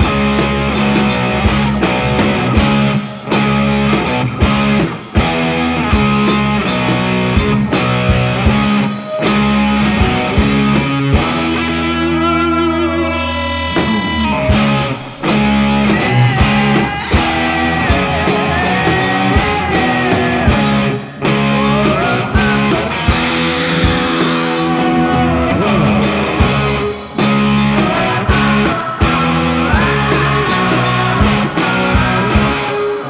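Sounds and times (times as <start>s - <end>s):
distorted electric guitars: 0.0s - 33.0s
drum kit: 0.0s - 33.0s.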